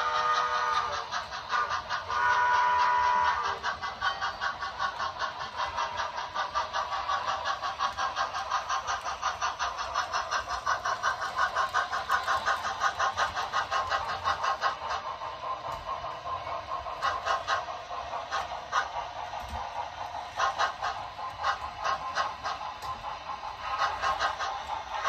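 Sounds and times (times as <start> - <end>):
model steam locomotive chuffing: 0.0 - 25.0.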